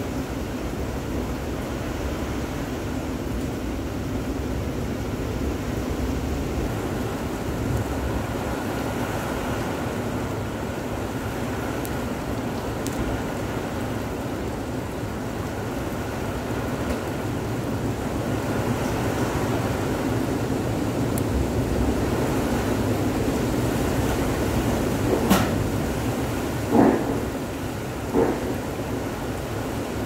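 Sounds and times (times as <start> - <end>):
wind rushing through trees: 0.0 - 30.0.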